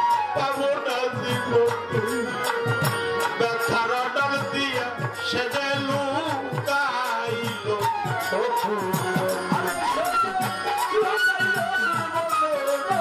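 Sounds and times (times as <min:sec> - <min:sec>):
folk melody: 0:00.0 - 0:13.0.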